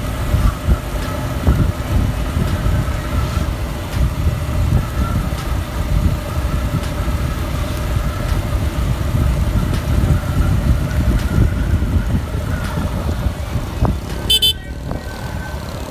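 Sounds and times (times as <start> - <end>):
motorcycle engine drone: 0.0 - 15.9
wind rumble on microphone: 0.0 - 15.9.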